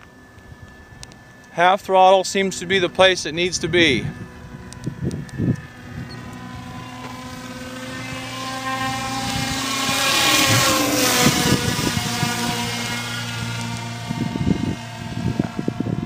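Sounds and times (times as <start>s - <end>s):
model airplane motor buzzing: 0.0s - 16.0s.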